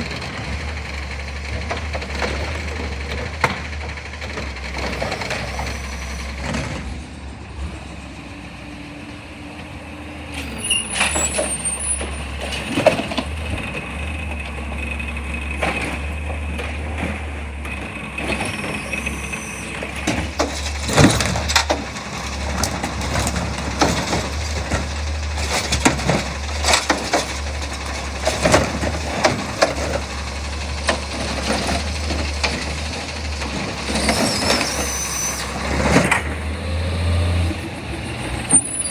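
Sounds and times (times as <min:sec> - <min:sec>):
knocks and clanks: 0:00.0 - 0:05.7, 0:11.1 - 0:37.2
garbage truck engine running: 0:00.0 - 0:38.9.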